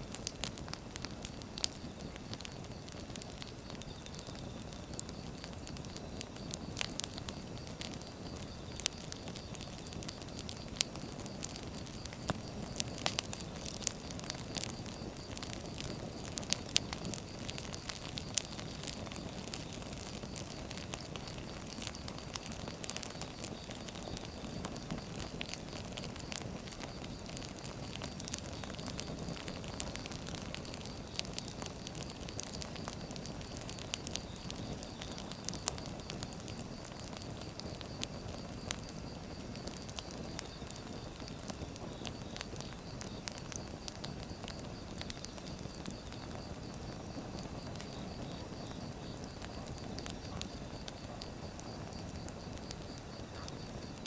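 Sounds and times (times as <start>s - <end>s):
firewood crackling and popping: 0.0s - 54.0s
low rustle of flames: 0.0s - 54.0s.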